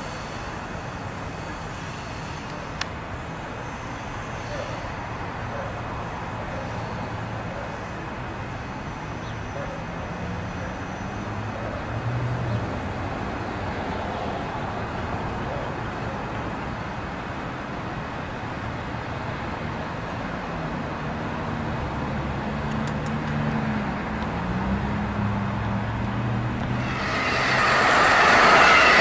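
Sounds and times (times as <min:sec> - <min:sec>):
train rumbling on rails: 0:00.0 - 0:17.8, 0:23.0 - 0:29.0.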